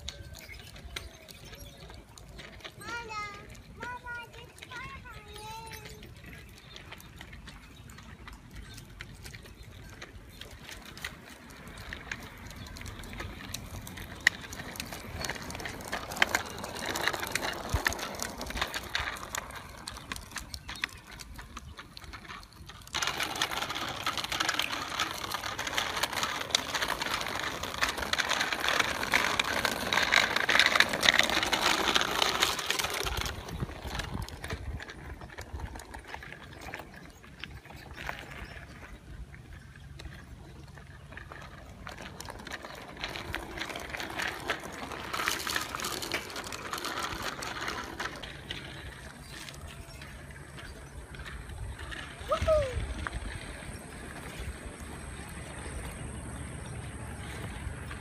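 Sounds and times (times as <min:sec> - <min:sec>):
bicycle rattling on concrete: 0:00.0 - 0:58.0.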